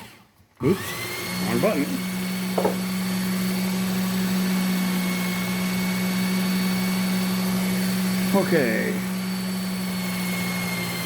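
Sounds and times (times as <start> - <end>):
belt sharpener running: 0.0 - 11.0.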